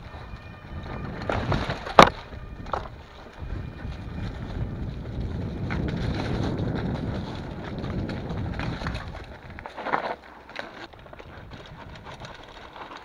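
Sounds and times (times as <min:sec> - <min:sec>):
wind on microphone: 0:00.0 - 0:09.8, 0:10.8 - 0:13.0
bike rattling: 0:00.0 - 0:13.0
tyres rumbling on dirt: 0:00.0 - 0:13.0.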